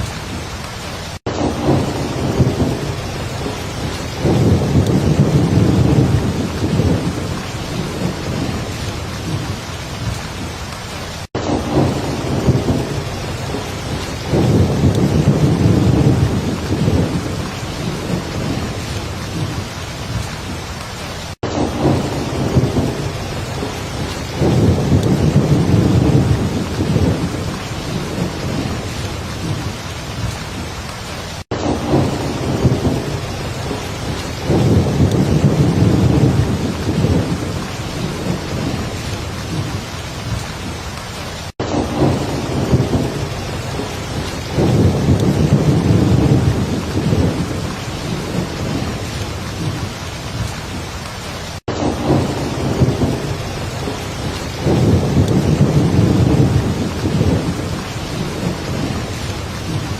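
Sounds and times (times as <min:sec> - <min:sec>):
low rolling thunder: 0:00.0 - 0:10.5, 0:11.3 - 0:20.6, 0:21.4 - 0:30.6, 0:31.5 - 0:40.8, 0:41.6 - 0:50.9, 0:51.7 - 0:59.9
heavy rain falling: 0:00.0 - 0:59.9.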